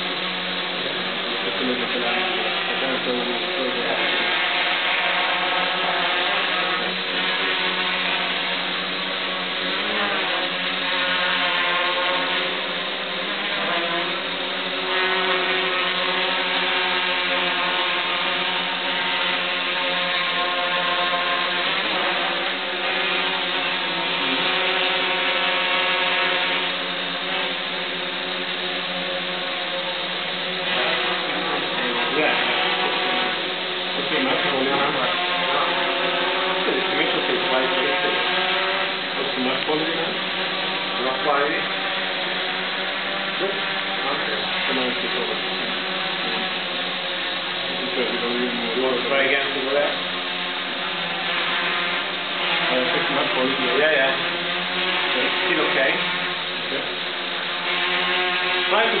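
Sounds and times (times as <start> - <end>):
drone rotors buzzing: 0.0 - 59.0.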